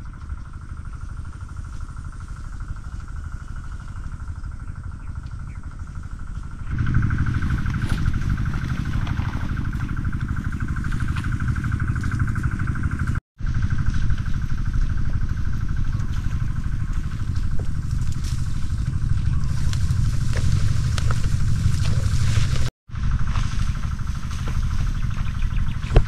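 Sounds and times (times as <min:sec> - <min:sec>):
engine whine: 0:00.0 - 0:26.0
small engine running: 0:00.0 - 0:26.0.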